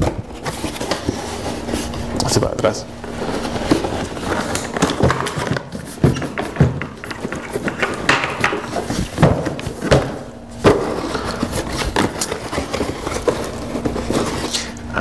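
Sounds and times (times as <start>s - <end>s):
cardboard flaps scraping: 0.0s - 14.8s.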